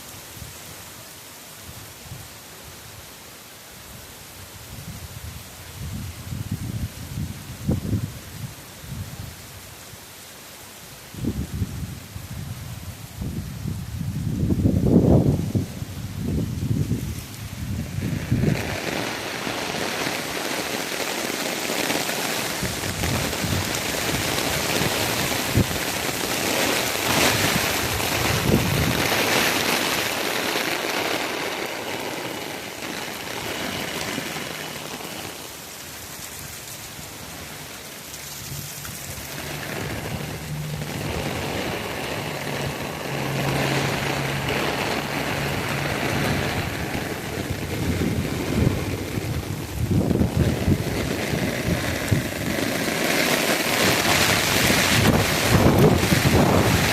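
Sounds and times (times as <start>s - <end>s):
heavy rain hissing: 0.0s - 56.9s.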